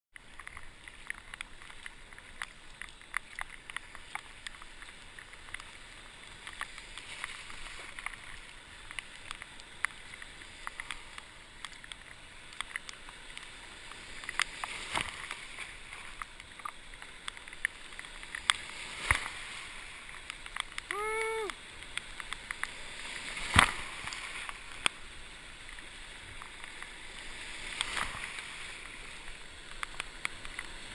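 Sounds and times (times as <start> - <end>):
paddle drips and splashes: 0.1 - 30.9
wave washing over kayak bow: 0.2 - 30.9.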